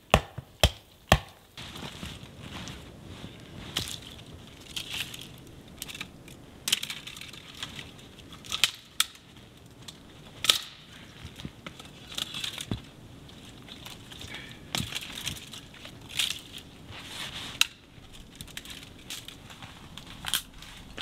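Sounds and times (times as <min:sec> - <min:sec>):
twigs crackling: 0:00.0 - 0:21.0
dry branches snapping: 0:00.1 - 0:16.9, 0:17.5 - 0:21.0.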